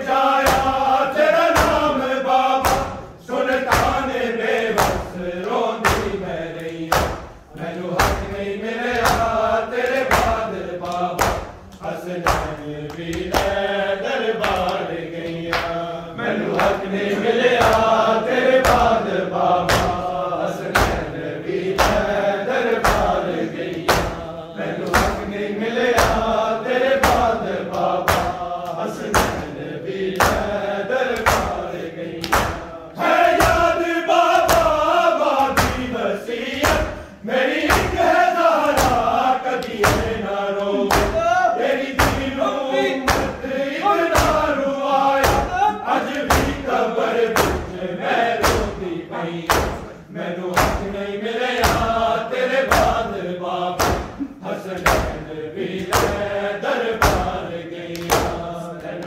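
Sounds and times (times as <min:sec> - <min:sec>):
men chanting in chorus: 0:00.0 - 0:59.0
hands beating chests: 0:00.2 - 0:13.8, 0:14.4 - 0:15.8, 0:16.4 - 0:47.7, 0:48.3 - 0:48.9, 0:49.5 - 0:49.9, 0:50.5 - 0:50.9, 0:51.5 - 0:53.0, 0:53.8 - 0:56.2, 0:57.0 - 0:58.5.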